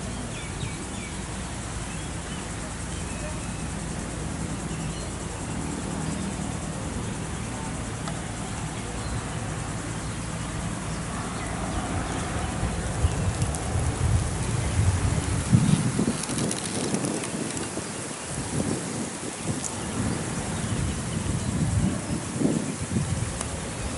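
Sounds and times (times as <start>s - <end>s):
wind buffeting microphone: 3.7s - 23.9s.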